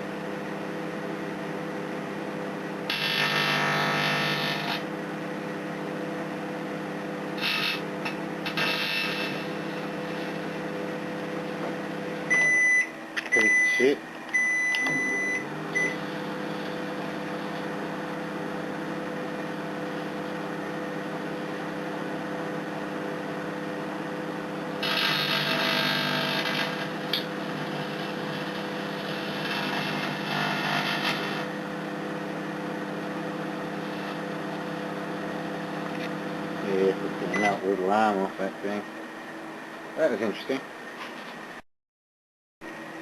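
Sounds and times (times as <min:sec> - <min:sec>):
microwave oven humming: 0:00.0 - 0:41.6, 0:42.6 - 0:43.0.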